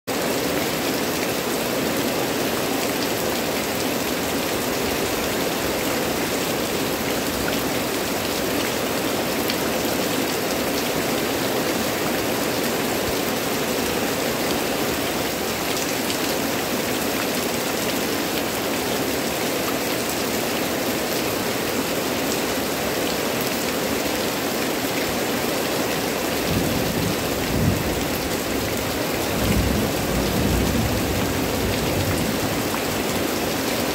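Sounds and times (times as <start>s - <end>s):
heavy rain on leafy vegetation: 0.0s - 33.9s.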